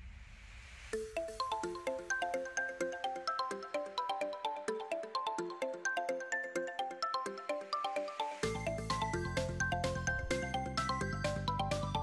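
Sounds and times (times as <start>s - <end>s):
quick melody of ringing notes: 1.2s - 12.0s.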